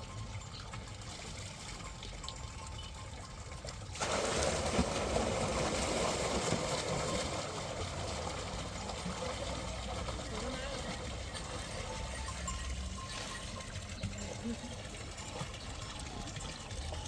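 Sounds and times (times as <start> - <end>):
water gushing: 0.0 - 17.0
water running: 1.8 - 17.0.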